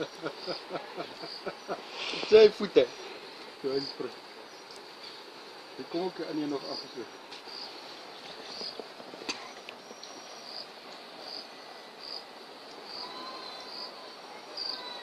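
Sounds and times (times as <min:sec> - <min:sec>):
background hiss: 0:00.0 - 0:15.0
insects chirping: 0:00.0 - 0:15.0.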